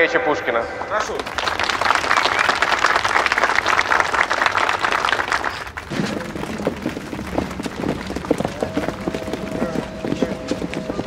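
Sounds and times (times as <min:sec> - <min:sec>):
crowd applauding: 0:01.0 - 0:11.0.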